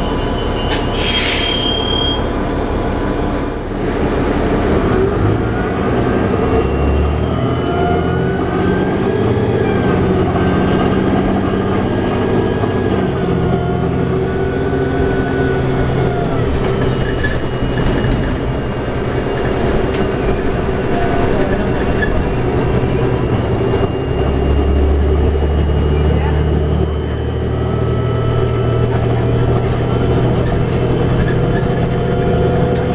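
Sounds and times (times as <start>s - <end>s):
bus diesel engine: 0.0s - 32.9s
drivetrain whine: 1.6s - 32.9s.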